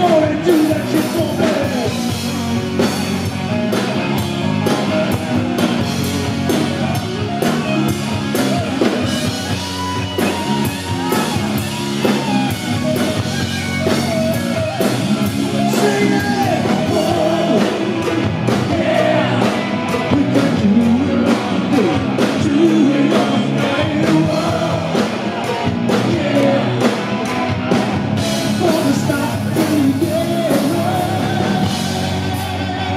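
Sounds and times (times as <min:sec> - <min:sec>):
electric guitar lead lines: 0:00.0 - 0:32.9
rock band playing loudly: 0:00.0 - 0:32.9.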